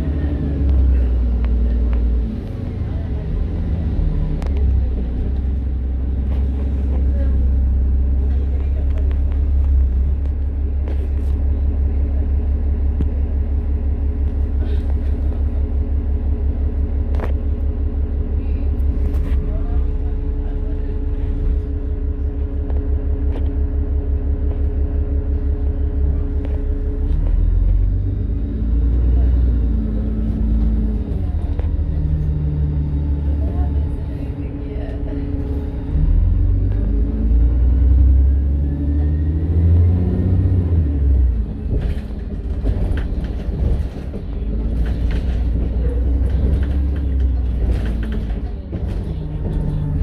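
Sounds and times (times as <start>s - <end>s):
bus knocks and rattles: 0.0s - 50.0s
diesel engine rumble: 0.0s - 50.0s.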